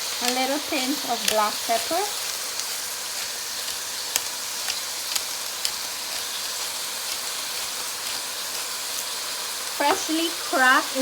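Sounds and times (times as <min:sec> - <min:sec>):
sharp crackles: 0:00.0 - 0:10.0
vegetables sizzling in a pan: 0:00.0 - 0:11.0.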